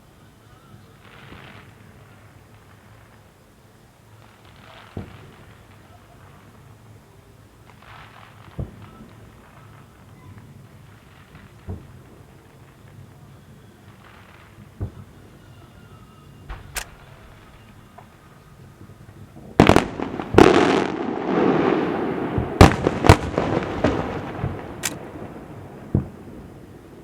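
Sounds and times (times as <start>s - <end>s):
fireworks crackling: 0.0s - 27.0s
fireworks bangs: 0.7s - 3.4s, 4.1s - 27.0s.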